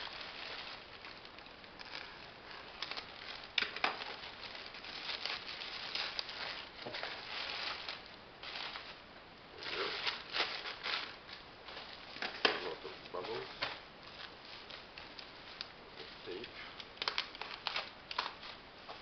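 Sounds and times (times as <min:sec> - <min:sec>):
plastic packaging crinkling: 0:00.0 - 0:09.0, 0:09.6 - 0:18.6.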